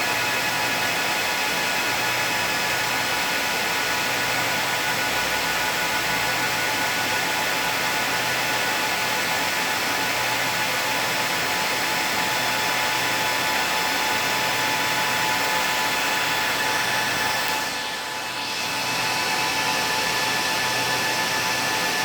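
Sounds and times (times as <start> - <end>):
cooling fans whirring: 0.0 - 22.0.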